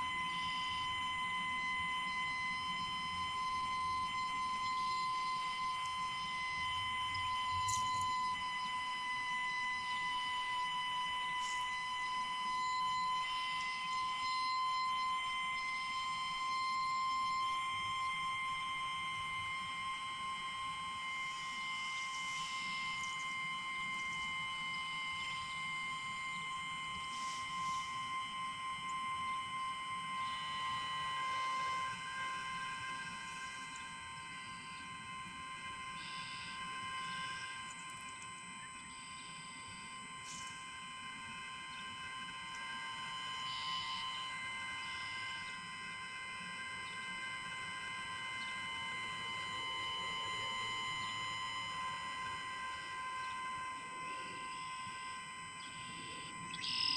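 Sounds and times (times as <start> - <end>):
electronic instrument drone: 0.0 - 56.9.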